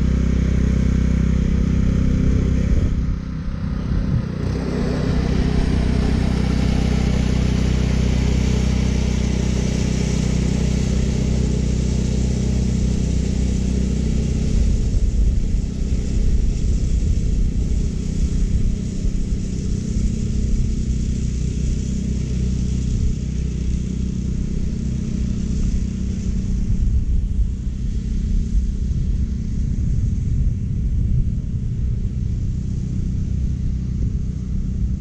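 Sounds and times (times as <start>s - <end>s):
reel mower engine hum: 0.0s - 35.0s.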